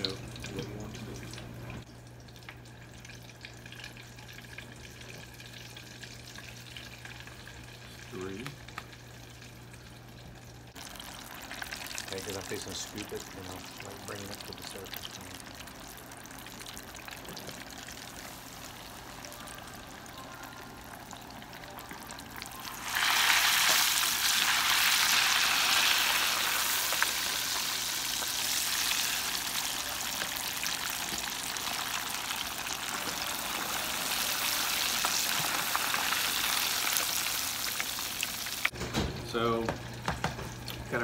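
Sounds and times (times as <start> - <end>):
food deep-frying in hot oil: 0.0 - 41.0.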